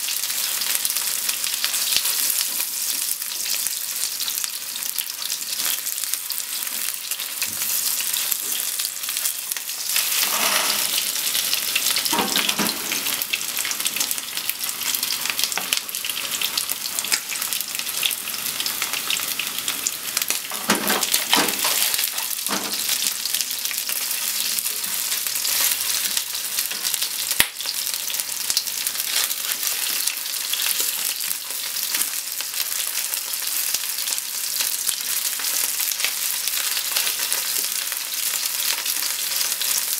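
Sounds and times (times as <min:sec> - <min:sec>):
chicken sizzling in oil: 0:00.0 - 0:39.9.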